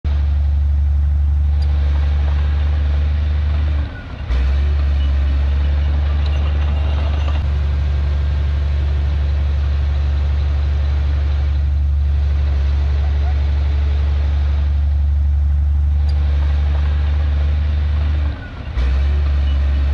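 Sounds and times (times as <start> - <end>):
heavy diesel engine droning: 0.0 - 19.9.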